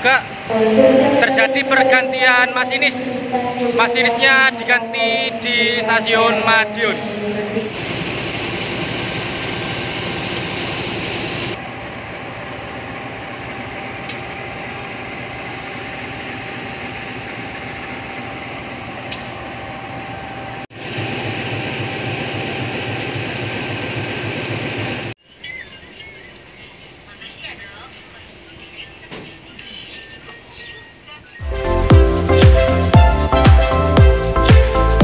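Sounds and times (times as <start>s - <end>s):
train mechanical hum: 0.0s - 31.4s.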